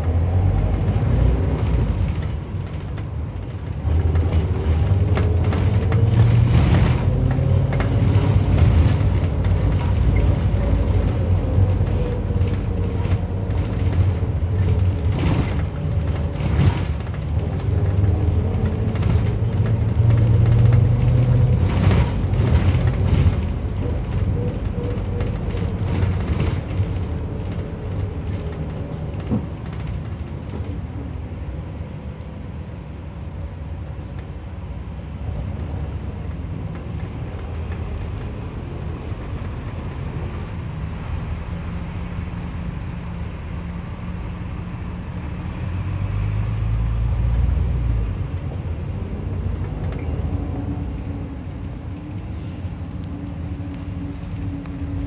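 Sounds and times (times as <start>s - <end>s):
minibus engine running: 0.0s - 55.0s.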